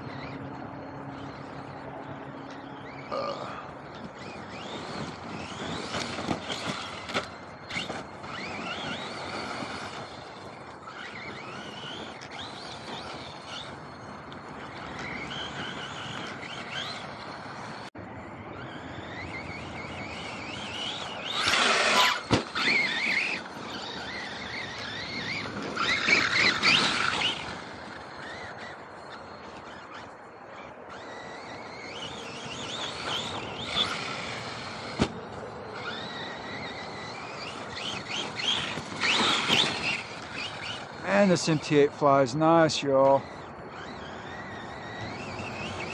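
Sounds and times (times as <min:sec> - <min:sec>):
rc truck motor whining: 0:00.0 - 0:45.9.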